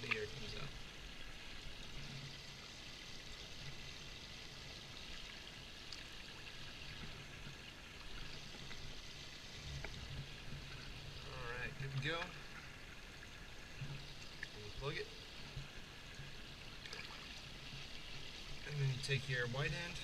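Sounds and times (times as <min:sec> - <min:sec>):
pool water trickling and splashing: 0:00.0 - 0:20.0.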